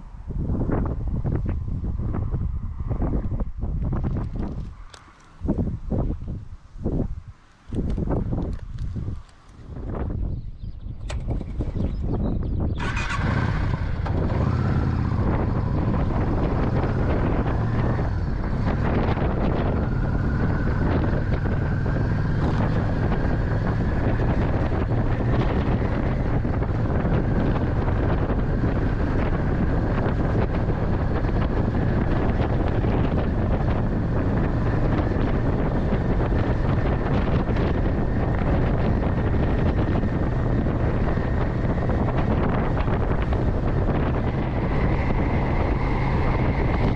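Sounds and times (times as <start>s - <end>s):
motorcycle engine and road rumble: 0.0s - 46.9s
wind buffeting microphone: 0.0s - 46.9s.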